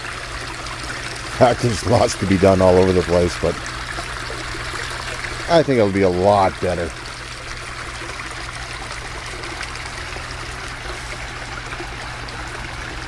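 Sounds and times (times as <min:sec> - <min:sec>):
water trickling into pond: 0:00.0 - 0:13.0.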